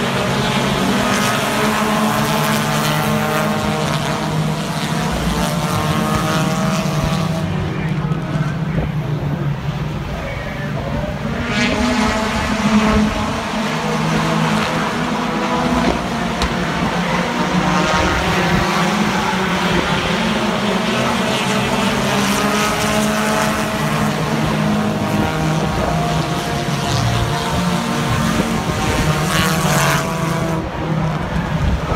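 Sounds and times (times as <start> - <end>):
race car engines droning: 0.0 - 31.9.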